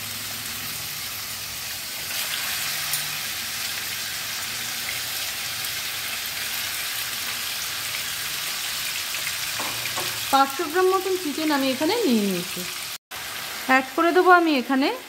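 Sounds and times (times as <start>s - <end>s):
meat sizzling in hot oil: 0.0s - 15.0s.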